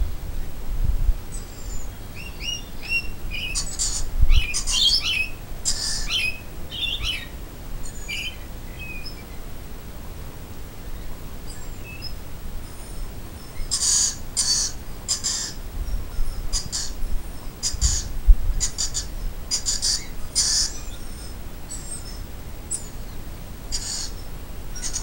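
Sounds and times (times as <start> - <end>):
wild birds chirping: 1.3 - 25.0.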